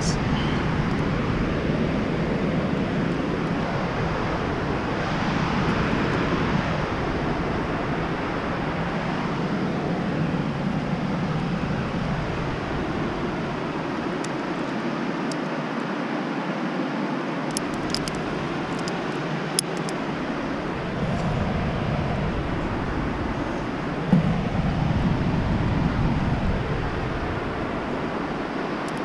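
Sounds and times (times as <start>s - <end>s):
wind buffeting microphone: 0.0s - 16.0s, 16.8s - 29.0s.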